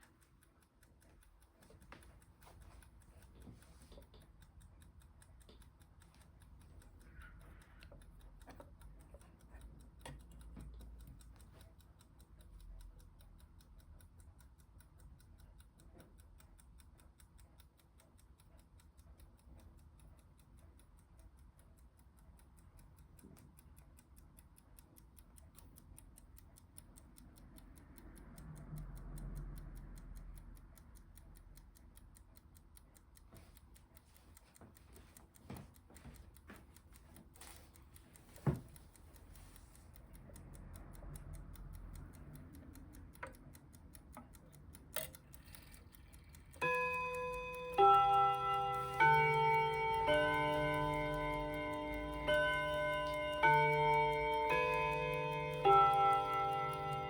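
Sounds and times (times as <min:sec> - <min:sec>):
mantel clock ticking: 0:00.0 - 0:57.0.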